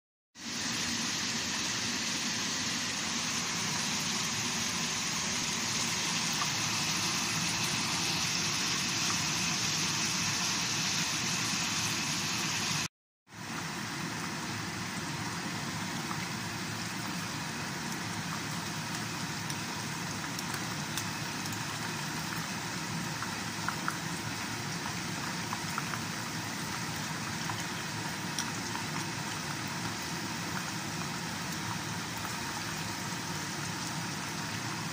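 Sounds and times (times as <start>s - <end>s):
chicken sizzling in hot oil: 0.4s - 34.9s.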